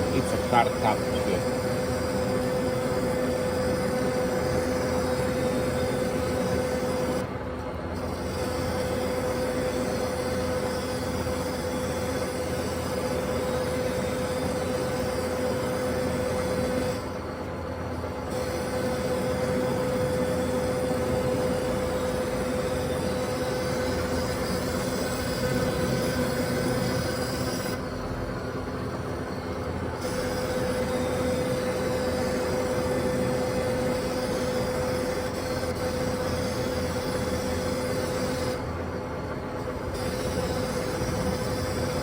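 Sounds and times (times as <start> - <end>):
lathe machining with whining tone: 0.0 - 42.0.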